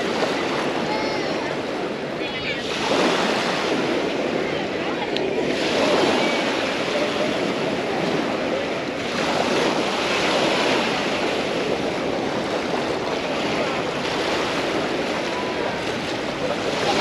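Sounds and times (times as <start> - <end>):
small waves washing on beach: 0.0 - 17.0.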